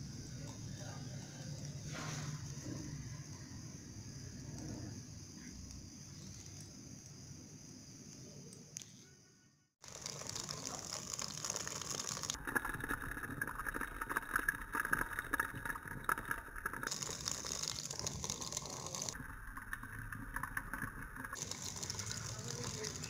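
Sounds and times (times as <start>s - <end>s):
hot oil sizzling and bubbling: 0.0s - 8.2s, 9.8s - 23.0s.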